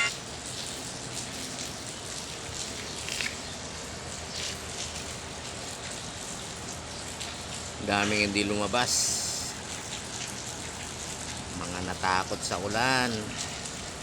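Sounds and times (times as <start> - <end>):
faint drips: 0.0 - 14.0
steady rain hiss: 0.0 - 14.0.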